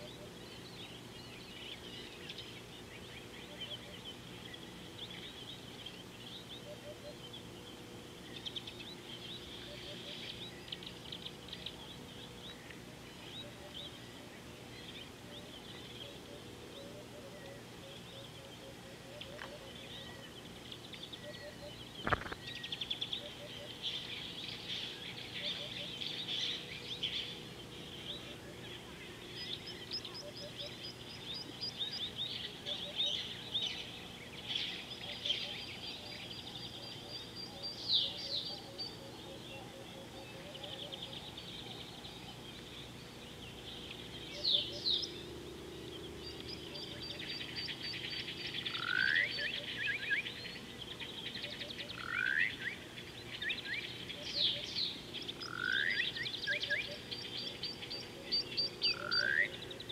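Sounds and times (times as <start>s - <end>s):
birds chirping and trilling: 0.0s - 59.9s
faint low hum: 0.0s - 59.9s.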